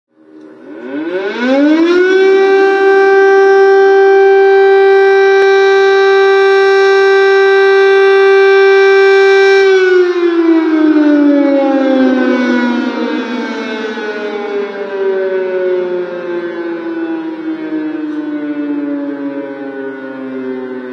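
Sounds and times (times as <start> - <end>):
loud air-raid siren: 0.2 - 20.9.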